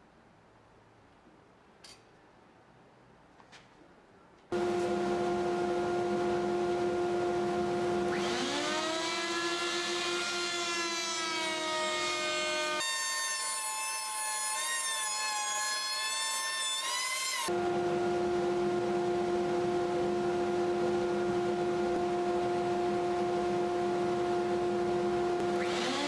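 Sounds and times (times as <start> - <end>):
router whining and cutting wood: 4.6 - 26.0.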